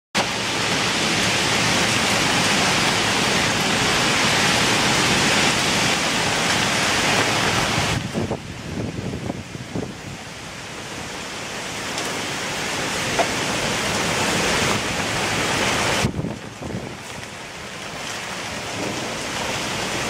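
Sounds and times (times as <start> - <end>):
heavy rain pouring in wind: 0.2 - 20.0.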